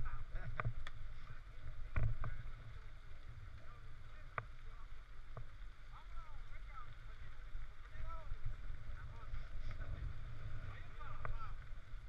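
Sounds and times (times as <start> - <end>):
rumble of wind and tyres: 0.0 - 12.0.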